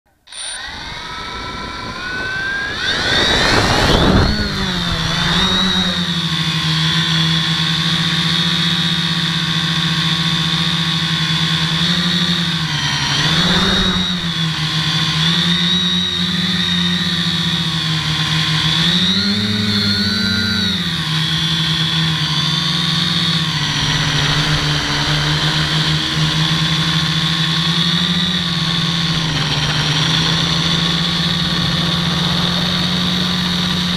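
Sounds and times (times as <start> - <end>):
drone propellers buzzing whine: 0.1 - 33.9.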